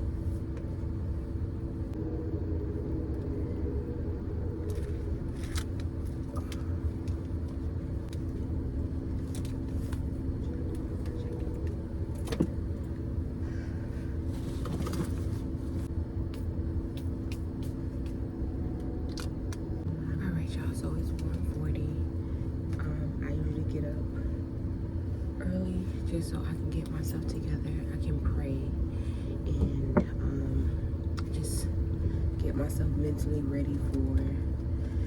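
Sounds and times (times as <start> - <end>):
train rumble from inside car: 0.0 - 15.9, 22.6 - 35.0.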